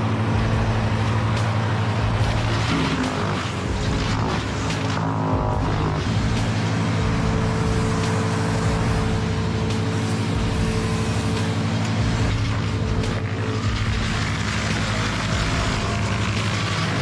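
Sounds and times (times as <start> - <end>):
chainsaw engine running: 0.0 - 17.0.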